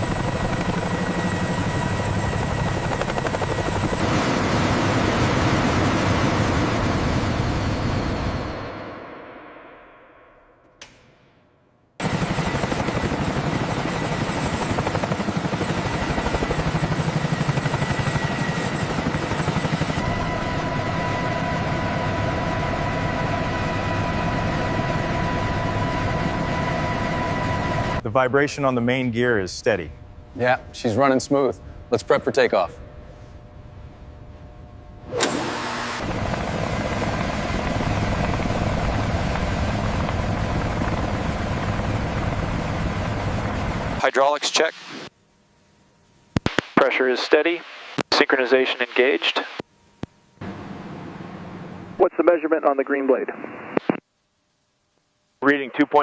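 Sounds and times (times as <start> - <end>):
helicopter rotor and turbines: 0.0 - 10.6, 11.9 - 32.8, 33.5 - 45.1, 46.4 - 49.6, 50.4 - 53.9
steady high whine: 0.0 - 56.0.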